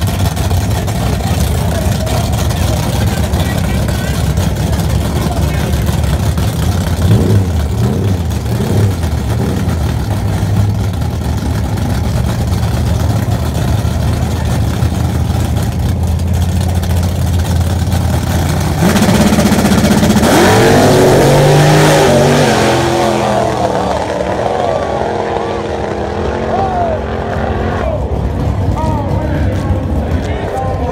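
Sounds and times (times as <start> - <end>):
car accelerating and shifting gears: 0.0 - 30.9
drag car engine idling: 0.0 - 30.9.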